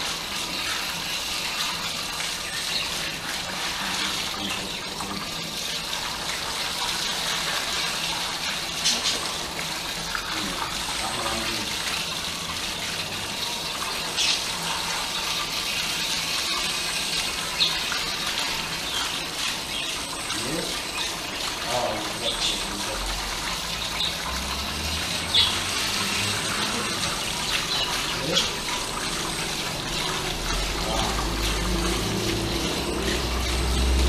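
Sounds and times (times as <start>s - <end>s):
shower water spraying on dog: 0.0s - 34.0s
water splashing on concrete: 0.0s - 34.0s.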